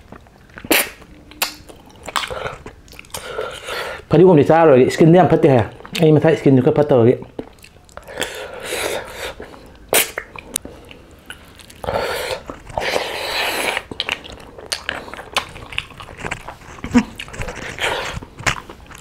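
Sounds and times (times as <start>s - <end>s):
wet chewing and smacking: 0.0s - 3.8s, 5.6s - 8.5s, 9.1s - 19.0s.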